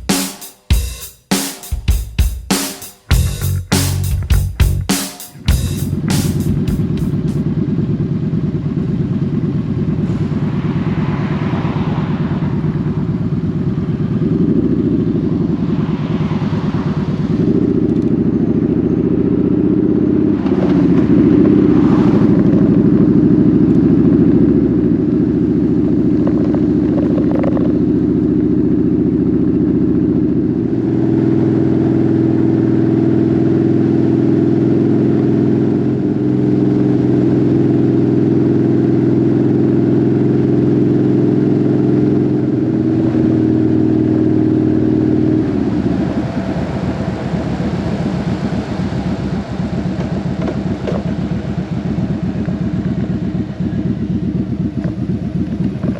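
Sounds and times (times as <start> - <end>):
motorcycle engine running: 0.0 - 1.1, 1.7 - 11.1, 12.2 - 55.9.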